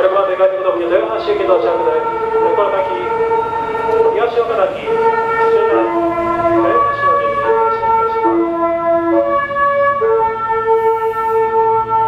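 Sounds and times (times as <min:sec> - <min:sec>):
train music horn melody: 0:01.0 - 0:12.0.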